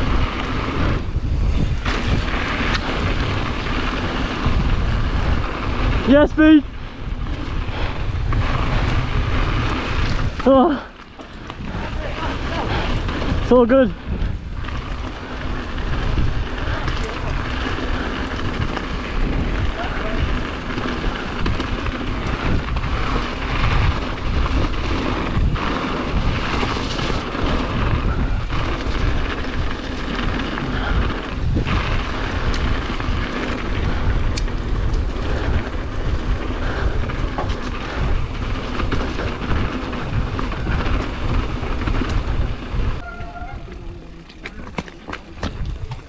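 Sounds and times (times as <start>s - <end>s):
bike tyres rolling over gravel: 0.0s - 46.0s
wind buffeting microphone: 0.0s - 46.0s.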